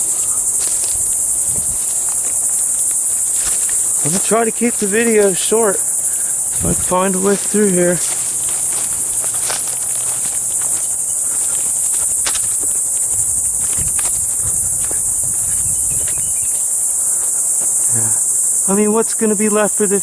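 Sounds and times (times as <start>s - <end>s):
footsteps through brush: 0.0s - 19.5s
insects chirring: 0.0s - 20.0s.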